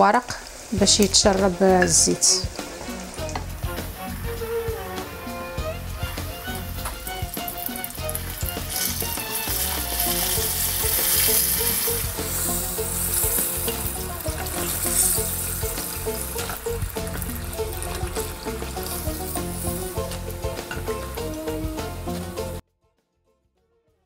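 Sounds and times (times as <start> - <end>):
fish deep-frying in oil: 0.0 - 22.2
soft music: 0.0 - 24.0.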